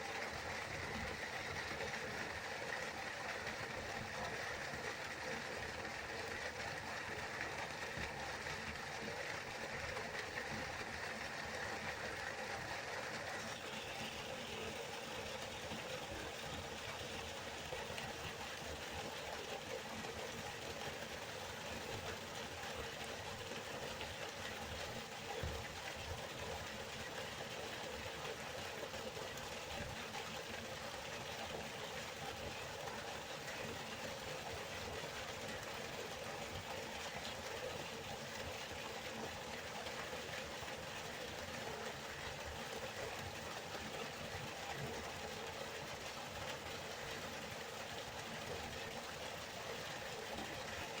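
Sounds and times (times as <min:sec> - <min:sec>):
river water flowing: 0:00.0 - 0:51.0.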